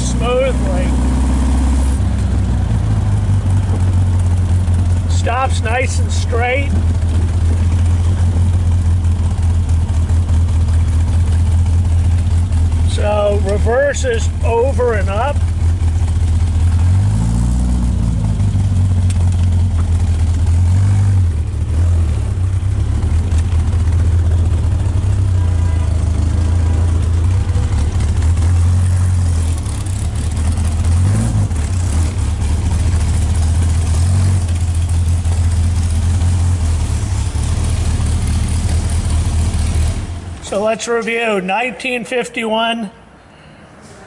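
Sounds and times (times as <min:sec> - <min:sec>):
car engine running at low revs: 0:00.0 - 0:41.0.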